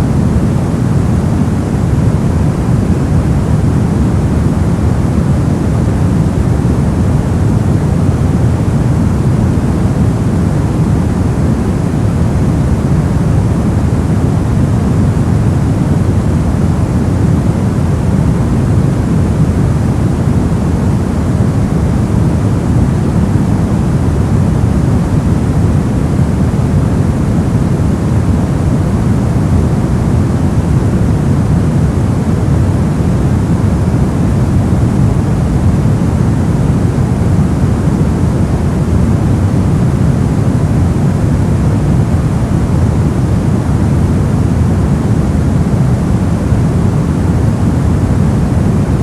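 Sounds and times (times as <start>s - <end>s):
deep even white noise: 0.0s - 49.0s.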